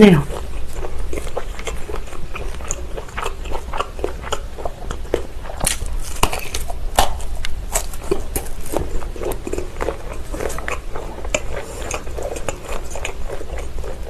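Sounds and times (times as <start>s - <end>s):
chewing and biting sausage: 0.0s - 14.0s.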